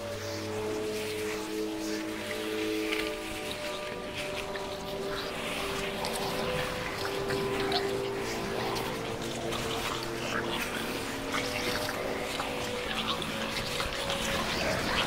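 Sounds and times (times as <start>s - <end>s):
small crackles and clicks: 0.0s - 15.0s
sustained synthesized tones: 0.0s - 15.0s.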